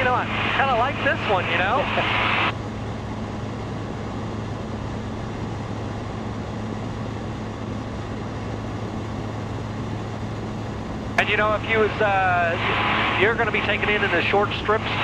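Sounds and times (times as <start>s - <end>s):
aircraft engine and propeller drone: 0.0s - 15.0s.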